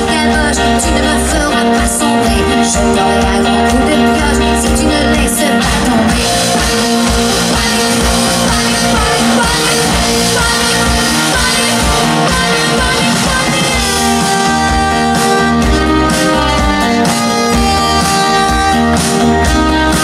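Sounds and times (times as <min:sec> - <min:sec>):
live rock band playing: 0:00.0 - 0:20.0
woman singing: 0:00.0 - 0:20.0.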